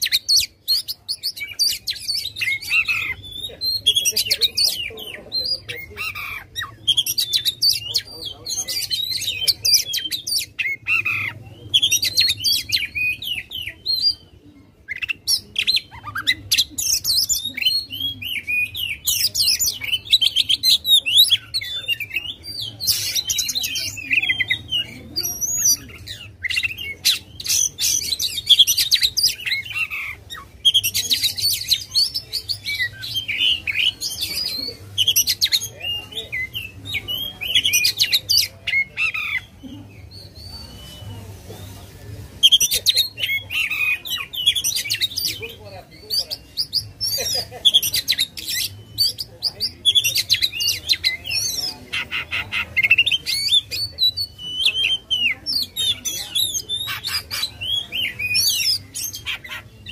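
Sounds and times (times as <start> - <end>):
magpie-robin singing: 0.0 - 59.9.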